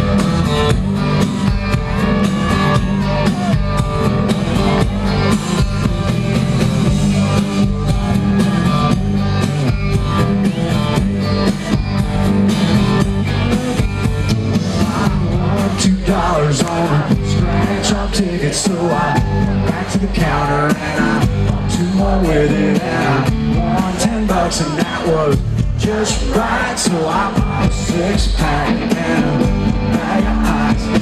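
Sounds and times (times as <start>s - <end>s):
country band playing: 0.0s - 31.0s.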